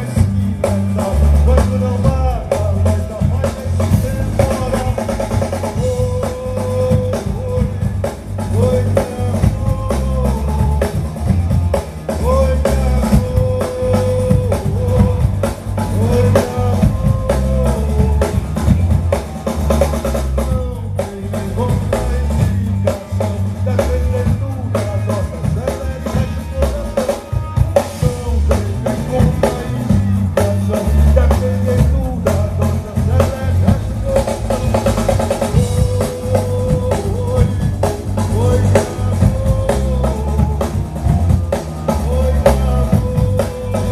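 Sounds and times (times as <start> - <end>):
driving drum kit: 0.0 - 43.9
heavy bass line: 0.0 - 43.9
rock band playing live: 0.0 - 43.9.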